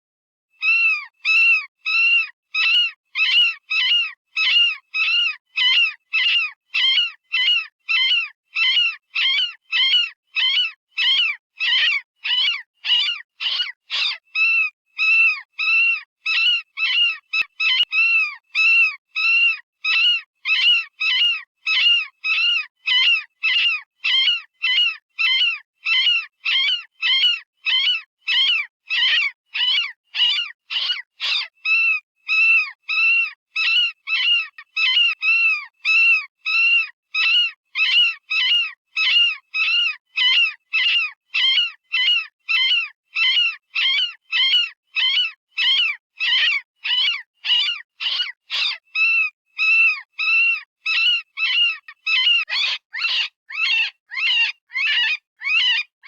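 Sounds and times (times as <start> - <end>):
high-pitched rabbit distress screams: 0.6 - 55.9.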